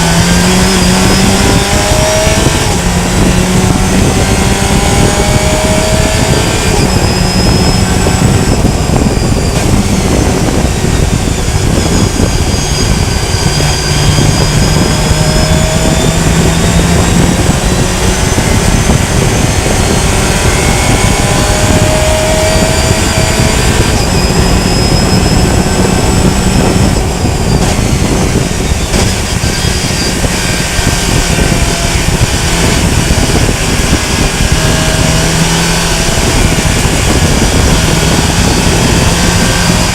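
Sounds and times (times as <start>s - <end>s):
loud steady rushing noise: 0.0s - 39.9s
race car engine shifting gears: 0.0s - 39.9s.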